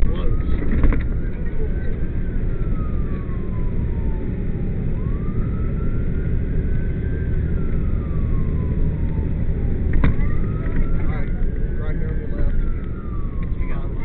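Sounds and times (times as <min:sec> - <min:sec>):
fire truck siren wailing: 0:00.0 - 0:14.0
road noise: 0:00.0 - 0:14.0
truck engine rumble: 0:00.0 - 0:14.0.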